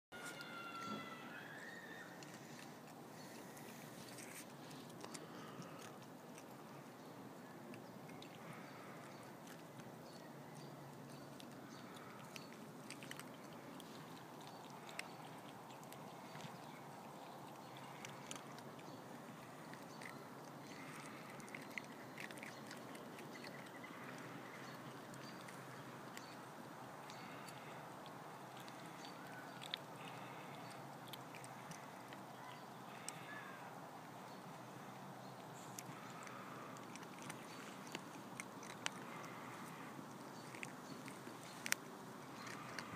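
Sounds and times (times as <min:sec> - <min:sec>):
kittens crunching kibble: 0:00.2 - 0:42.9
low steady hiss: 0:00.2 - 0:42.9
cats eating from metal bowl: 0:01.5 - 0:42.9.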